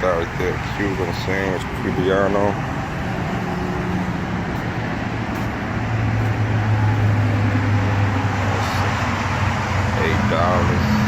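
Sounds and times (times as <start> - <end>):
low engine hum: 0.0 - 11.0
outdoor background noise: 0.0 - 11.0.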